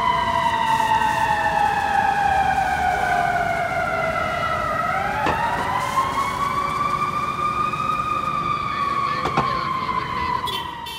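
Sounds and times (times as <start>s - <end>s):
fire truck siren wailing: 0.0s - 10.9s
street traffic: 0.0s - 10.9s.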